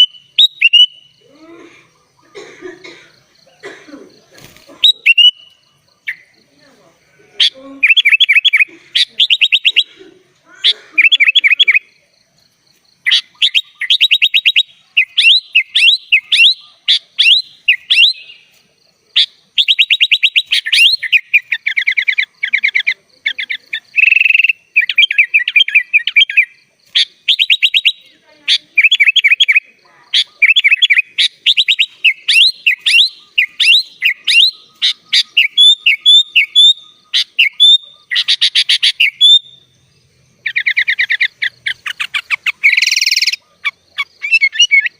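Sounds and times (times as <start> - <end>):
bird singing trills and whistles: 0.0 - 1.3, 4.4 - 6.4, 7.4 - 9.9, 11.0 - 11.9, 13.0 - 18.6, 19.2 - 44.9.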